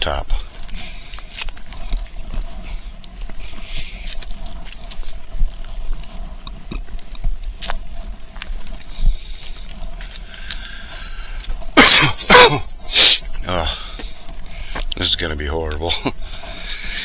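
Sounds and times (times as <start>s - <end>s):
footsteps on dirt trail: 0.0s - 17.0s.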